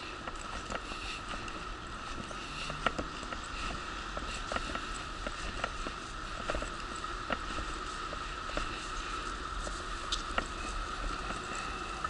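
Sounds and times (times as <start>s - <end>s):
wheelchair rolling over pavement: 0.0s - 12.0s.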